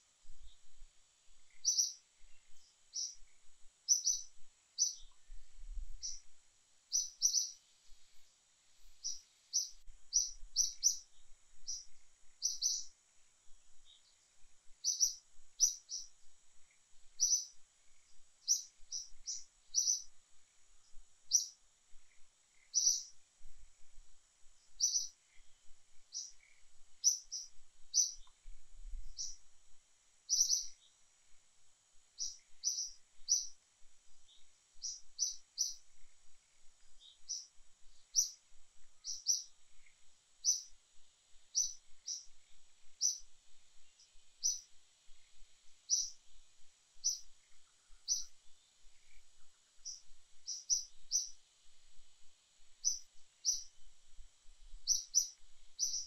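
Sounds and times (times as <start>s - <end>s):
bird chirping: 1.5s - 13.0s, 13.7s - 23.2s, 24.6s - 29.5s, 30.3s - 31.0s, 32.2s - 40.8s, 41.5s - 46.4s, 47.0s - 51.4s, 52.8s - 53.9s, 54.8s - 56.0s.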